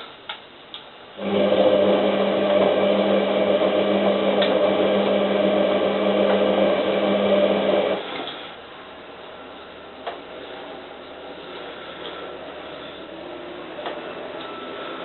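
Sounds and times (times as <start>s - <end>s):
washing machine motor hum: 1.1s - 15.0s.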